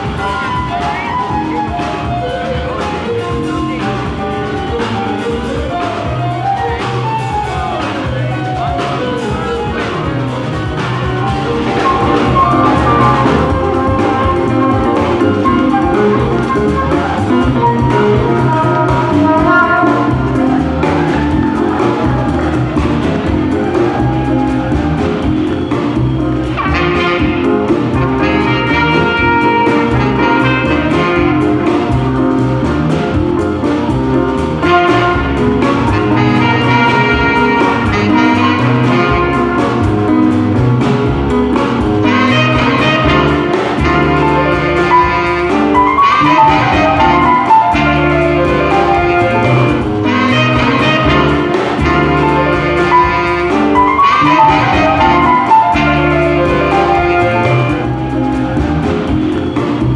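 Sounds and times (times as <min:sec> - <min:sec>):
jazz band music: 0:00.0 - 0:59.9.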